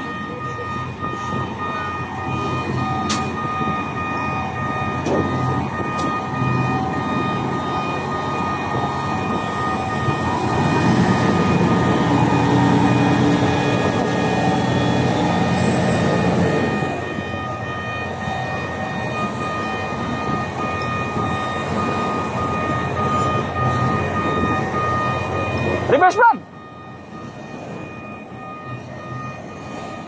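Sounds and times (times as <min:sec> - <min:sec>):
lifting machinery whining: 0:00.0 - 0:30.0.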